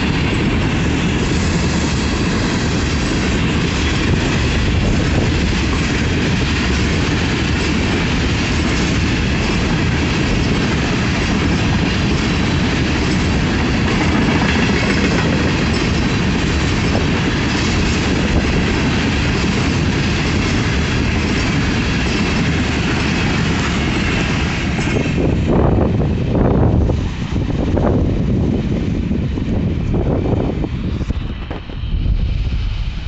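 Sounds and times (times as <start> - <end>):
steel wheels running on rails: 0.0 - 33.0.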